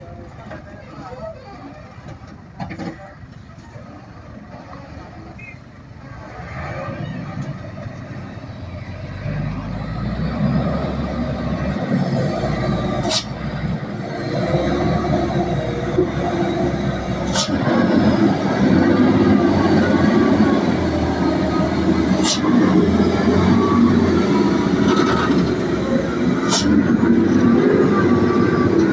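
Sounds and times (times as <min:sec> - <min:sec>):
dump truck diesel engine: 0:00.0 - 0:28.9.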